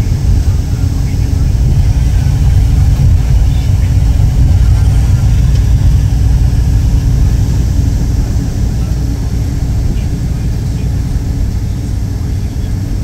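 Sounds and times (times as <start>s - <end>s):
vehicle rumble from cabin: 0.0s - 13.0s.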